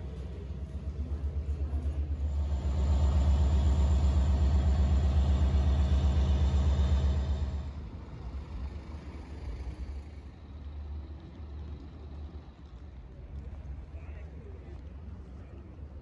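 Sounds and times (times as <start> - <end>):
diesel train engine idling: 0.0 - 14.0.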